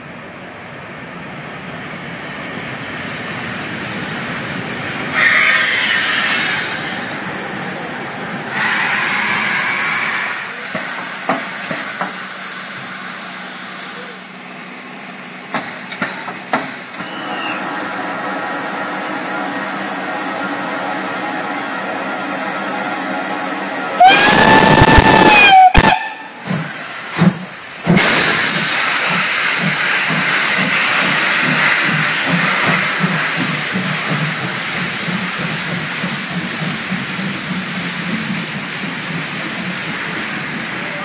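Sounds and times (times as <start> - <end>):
steam locomotive hissing steam: 1.2 - 41.0.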